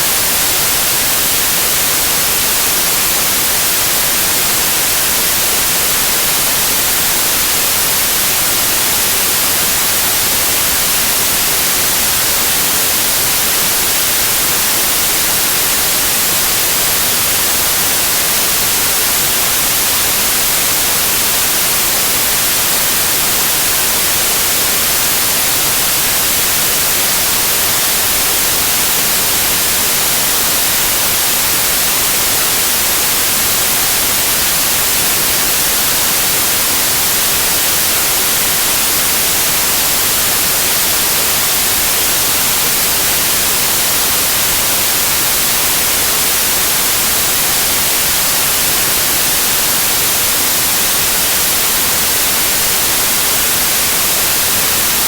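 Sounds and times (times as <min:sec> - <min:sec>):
static white noise hiss: 0:00.0 - 0:55.0.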